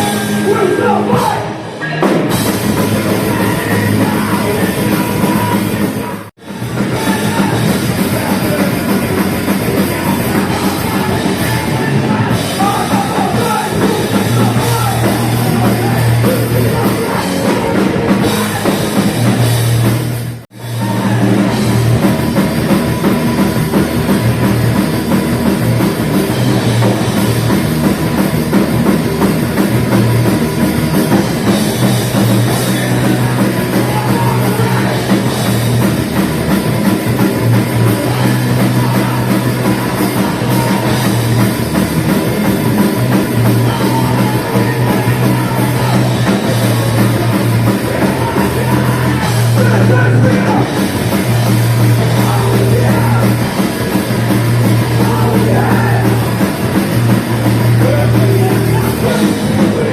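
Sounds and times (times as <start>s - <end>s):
driving drum kit: 0.0s - 59.9s
live heavy metal band: 0.0s - 59.9s.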